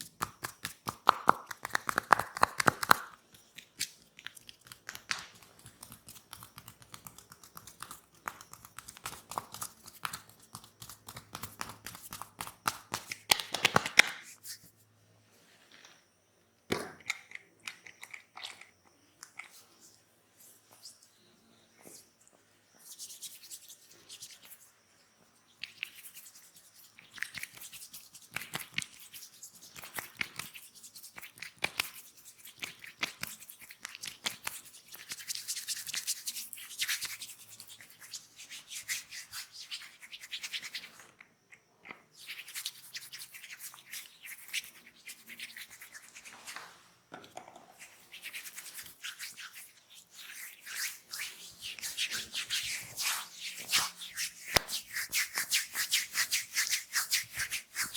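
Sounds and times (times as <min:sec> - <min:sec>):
hands rubbing oiled skin: 0:00.0 - 0:14.8, 0:22.8 - 0:24.7, 0:25.6 - 0:40.9, 0:42.2 - 0:46.8, 0:47.8 - 0:57.9.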